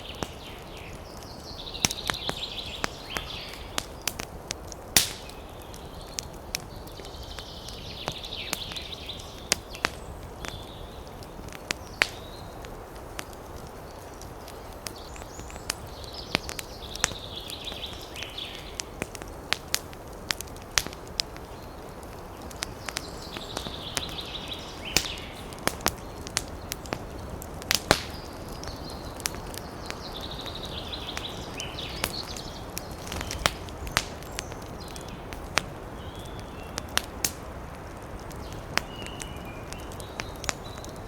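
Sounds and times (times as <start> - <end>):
fire hissing: 0.0 - 41.0
wood fire crackling: 0.0 - 41.0.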